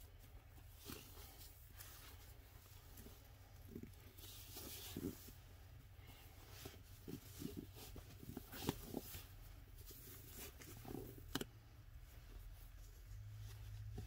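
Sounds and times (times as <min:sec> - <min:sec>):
fabric rustling: 0:00.0 - 0:14.0.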